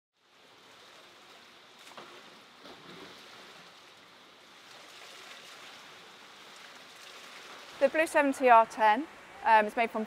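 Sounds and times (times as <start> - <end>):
soft water splashes: 0.2 - 9.4
swimming pool water hiss: 0.2 - 10.0.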